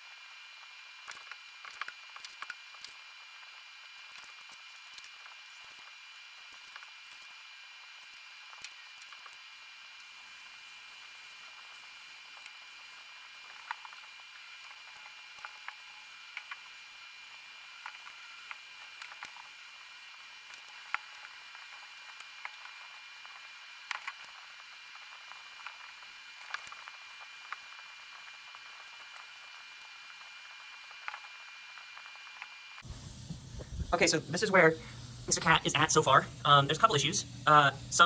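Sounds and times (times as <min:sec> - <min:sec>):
steady hiss: 0:00.0 - 0:38.0
thin high whine: 0:00.0 - 0:38.0.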